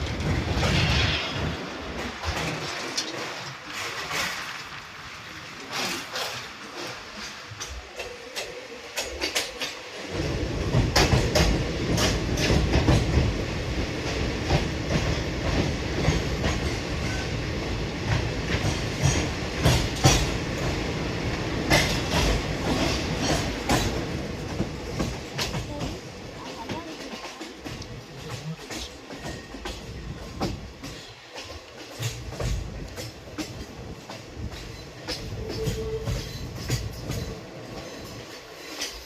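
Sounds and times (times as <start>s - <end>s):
train running on rails: 0.0s - 39.0s
wheels clacking over rail joints: 0.0s - 39.0s.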